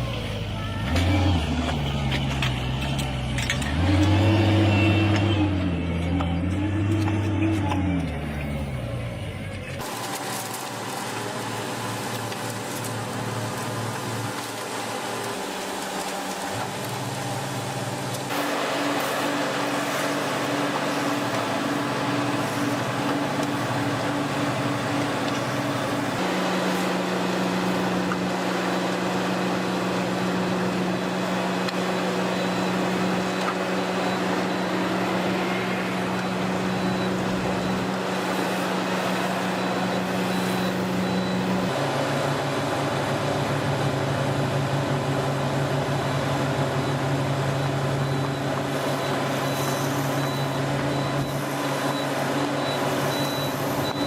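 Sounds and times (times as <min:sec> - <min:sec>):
heavy machinery engine drone: 0:00.0 - 0:54.0.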